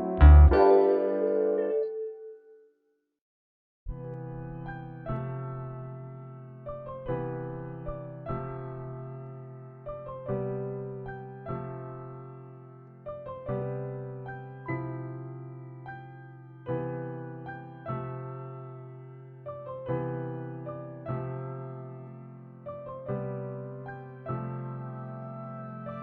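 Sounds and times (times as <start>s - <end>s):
slow gentle piano music: 0.0s - 2.7s, 3.9s - 26.0s.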